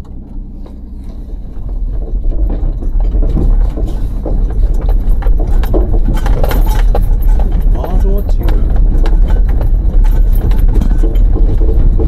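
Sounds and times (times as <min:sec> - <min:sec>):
car rumbling over gravel: 0:00.0 - 0:12.0
rattles and knocks: 0:00.0 - 0:12.0.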